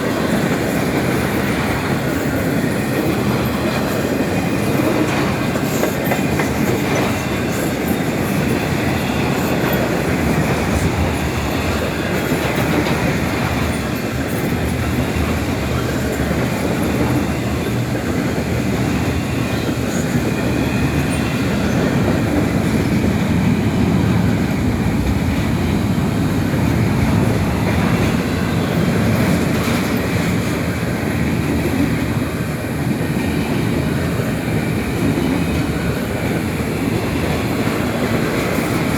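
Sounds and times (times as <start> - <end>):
train wheels on rails: 0.0 - 38.9.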